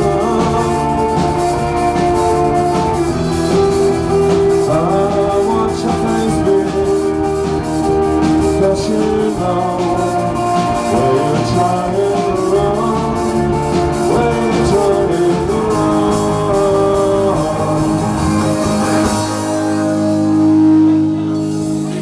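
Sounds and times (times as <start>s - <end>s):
drum kit beat: 0.0s - 22.0s
guitars with sliding notes: 0.0s - 22.0s.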